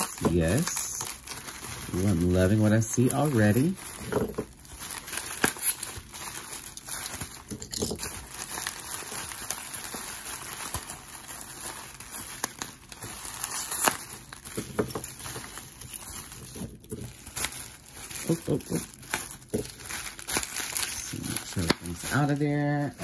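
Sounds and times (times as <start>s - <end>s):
bubble wrap crinkling: 0.0s - 23.0s.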